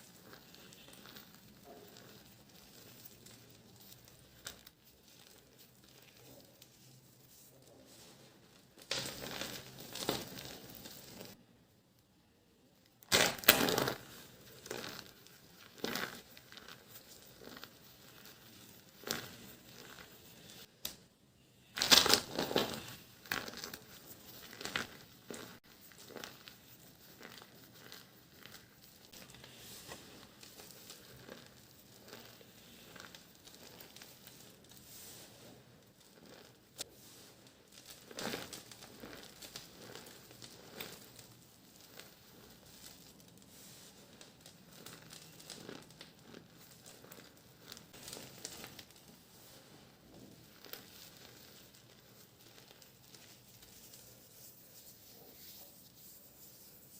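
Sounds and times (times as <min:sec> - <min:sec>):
dry soap crunching: 0:00.0 - 0:07.8, 0:08.7 - 0:11.4, 0:13.1 - 0:20.7, 0:21.8 - 0:56.9.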